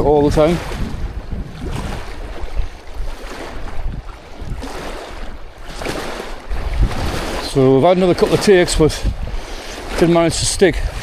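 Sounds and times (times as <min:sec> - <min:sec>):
wind gusting across microphone: 0:00.0 - 0:11.0.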